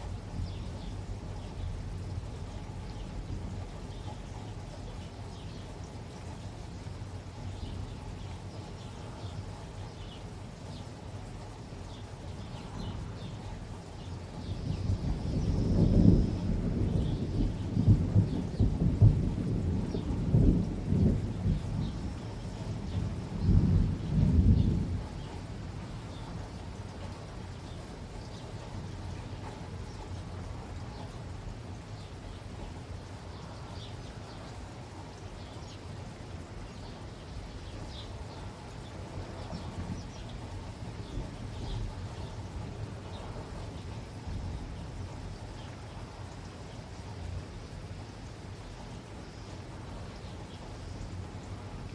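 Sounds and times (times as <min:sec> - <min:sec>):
low rumble of thunder: 0:00.0 - 0:51.9
steady rain: 0:00.0 - 0:51.9.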